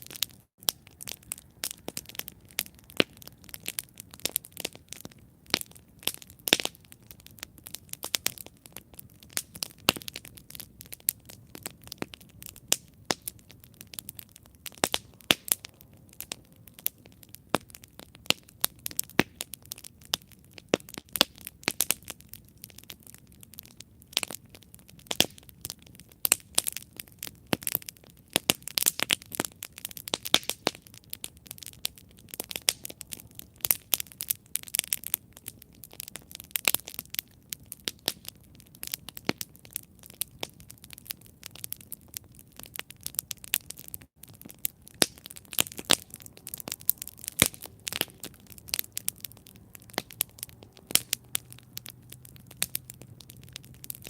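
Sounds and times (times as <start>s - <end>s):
campfire crackling and popping: 0.0s - 54.0s
low rustle of flame: 0.0s - 54.0s.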